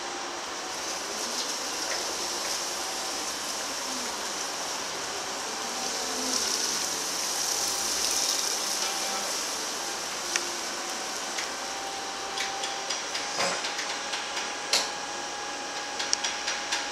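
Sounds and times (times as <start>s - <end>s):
forklift tyres and electric drive hiss: 0.0s - 16.9s.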